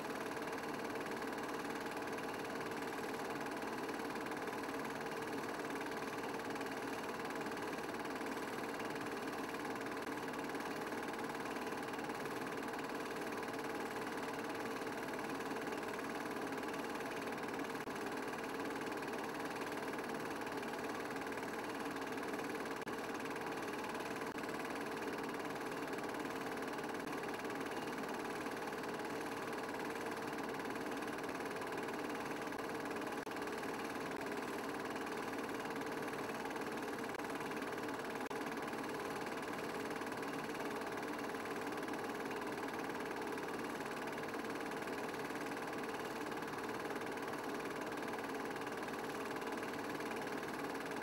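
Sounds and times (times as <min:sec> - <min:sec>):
film projector whirring: 0:00.0 - 0:51.0.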